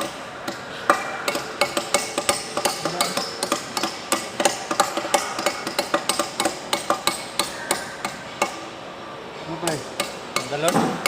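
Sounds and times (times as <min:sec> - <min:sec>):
hammer tapping on metal: 0:00.0 - 0:08.6, 0:09.6 - 0:11.0.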